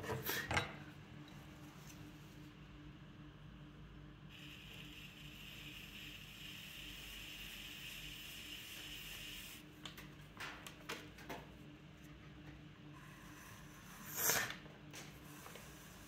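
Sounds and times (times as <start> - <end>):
pottery wheel motor humming: 0.0 - 10.4, 11.5 - 16.0.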